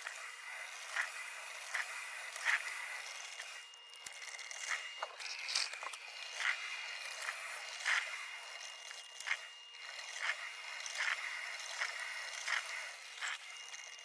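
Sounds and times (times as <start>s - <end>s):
coffee maker hissing: 0.0s - 13.4s
coffee maker sputtering puffs: 0.0s - 14.0s.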